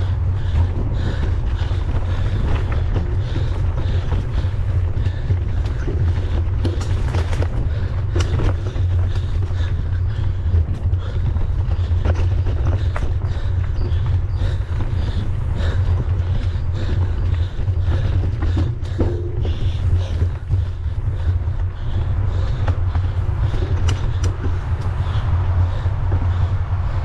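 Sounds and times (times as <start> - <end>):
bike rattling over rough trail: 0.0 - 27.0
wind buffeting microphone: 0.0 - 27.0.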